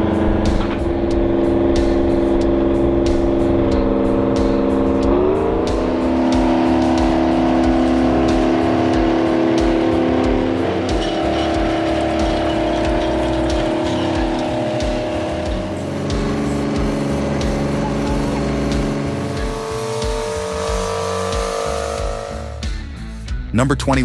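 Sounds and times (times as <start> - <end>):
background music: 0.0 - 24.0
large diesel engine running: 0.0 - 24.0.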